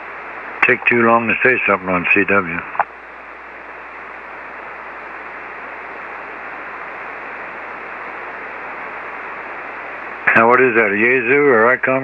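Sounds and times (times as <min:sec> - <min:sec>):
shortwave radio hiss: 0:00.0 - 0:12.0.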